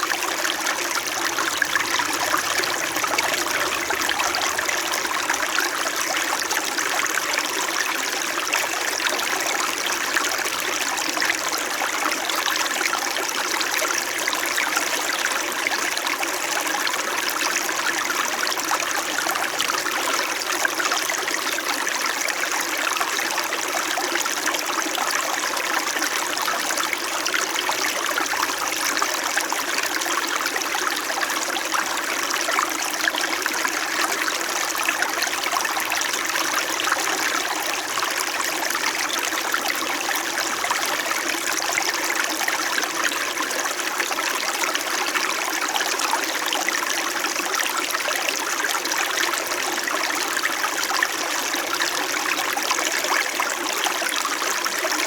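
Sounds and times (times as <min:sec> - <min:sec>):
stream burbling over stones: 0:00.0 - 0:55.0.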